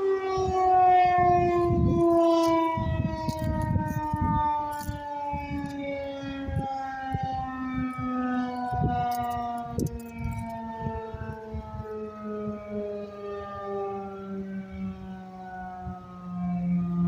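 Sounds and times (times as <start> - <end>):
tornado siren alert tone: 0.0 - 17.0.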